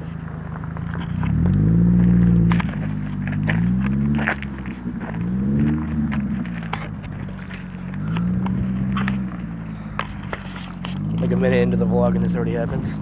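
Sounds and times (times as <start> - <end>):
car engine revving: 0.0 - 13.0
gravel crunching: 0.0 - 13.0.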